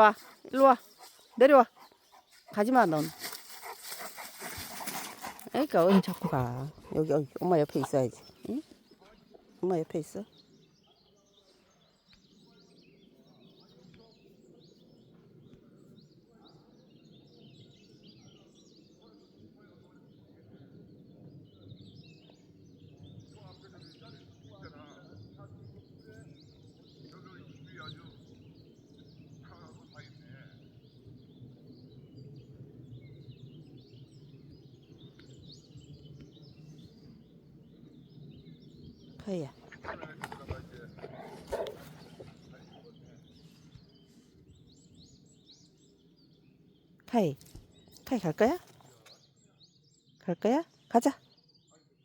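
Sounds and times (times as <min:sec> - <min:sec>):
small birds chirping: 0:00.0 - 0:19.3, 0:20.8 - 0:52.0.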